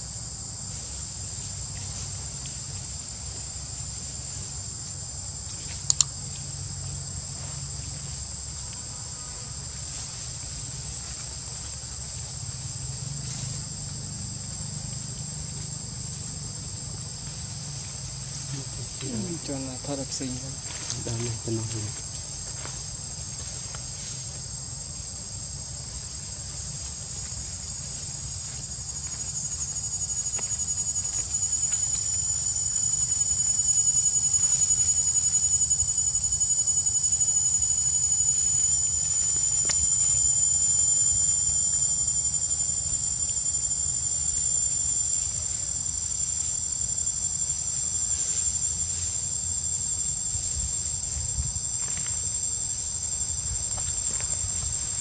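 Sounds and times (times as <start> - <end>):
insects whining: 0.0 - 55.0.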